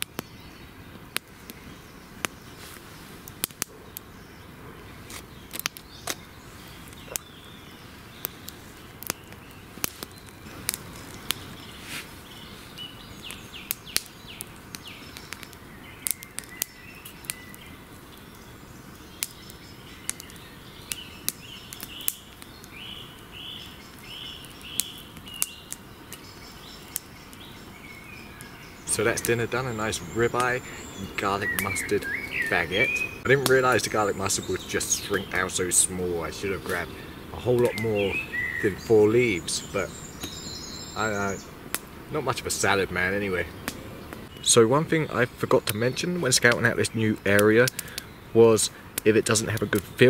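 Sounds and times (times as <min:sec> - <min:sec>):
bird singing: 0:00.0 - 0:50.0
wood fire crackling and popping: 0:00.0 - 0:50.0.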